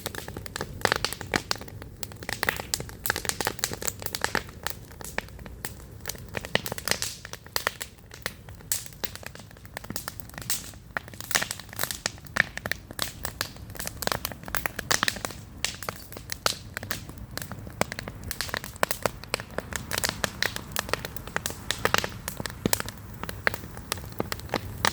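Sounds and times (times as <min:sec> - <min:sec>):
campfire crackling and popping: 0:00.0 - 0:24.9.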